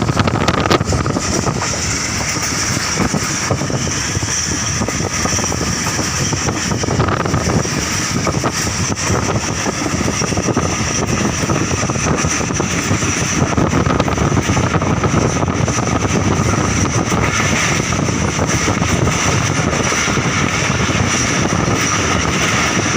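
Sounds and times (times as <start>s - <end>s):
passenger train running on track: 0.0s - 22.9s.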